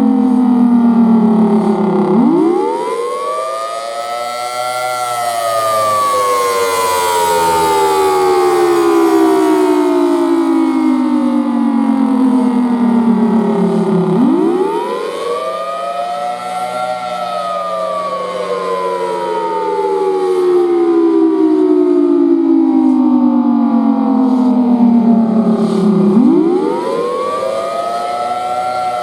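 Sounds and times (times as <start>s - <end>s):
warning siren wailing: 0.0s - 29.0s.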